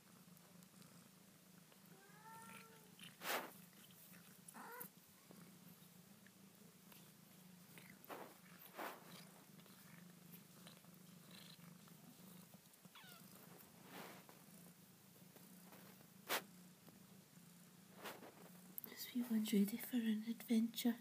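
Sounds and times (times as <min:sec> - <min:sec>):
kittens and cat purring: 0:00.0 - 0:21.0
soft rustles: 0:01.6 - 0:19.7.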